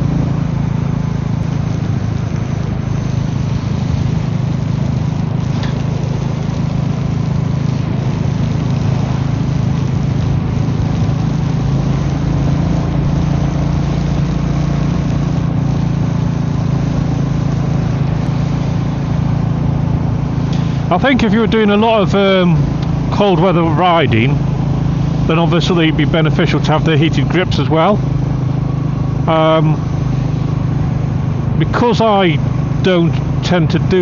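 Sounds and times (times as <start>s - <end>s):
constant rushing noise: 0.0s - 34.0s
motorcycle engine running: 0.0s - 34.0s.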